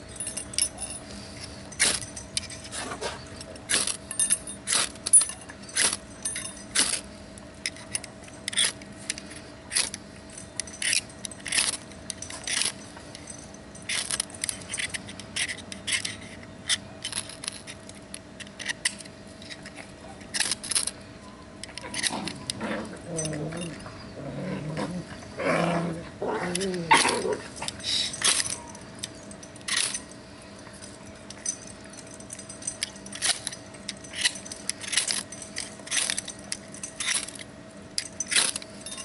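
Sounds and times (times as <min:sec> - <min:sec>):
metal tools scraping and clicking: 0:00.0 - 0:25.2, 0:25.8 - 0:39.0
faint steady hum: 0:00.0 - 0:39.0.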